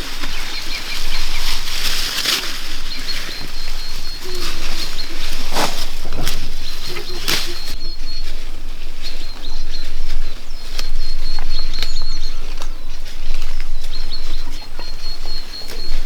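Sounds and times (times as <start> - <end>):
high chirping tone: 0.0 - 16.0.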